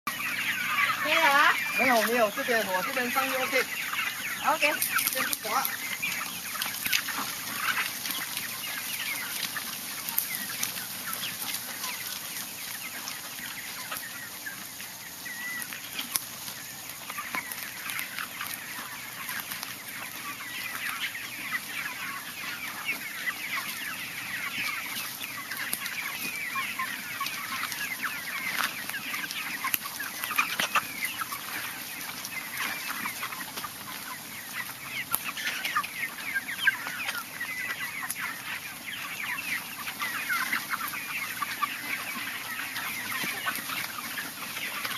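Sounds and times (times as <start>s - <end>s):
chickens clucking and chirping: 0.0s - 44.9s.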